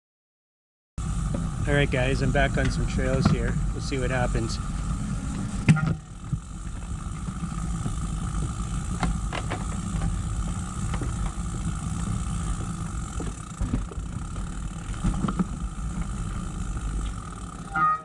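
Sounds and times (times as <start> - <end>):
bicycle clicks and rattles: 1.0 - 18.0
bicycle riding rumble: 1.0 - 18.0.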